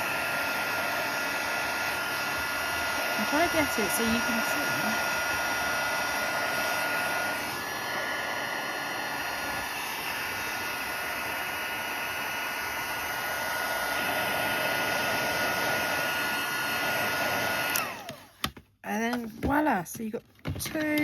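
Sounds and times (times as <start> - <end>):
heat gun blowing air: 0.0 - 18.5.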